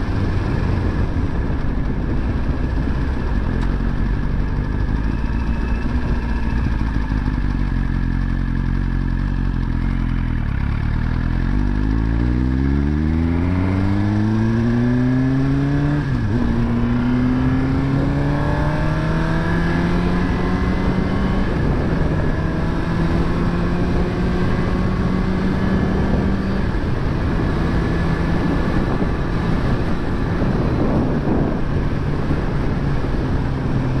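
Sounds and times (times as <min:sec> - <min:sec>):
motorcycle engine idling and revving: 0:00.0 - 0:34.0.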